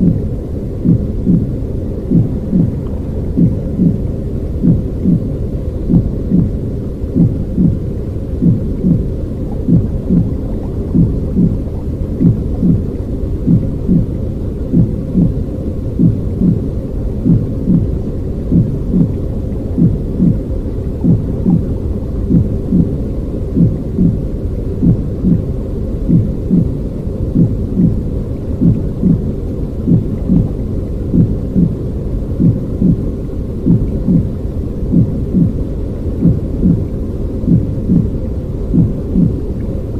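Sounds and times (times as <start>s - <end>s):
deep muffled rumbling pulses: 0.0s - 39.9s.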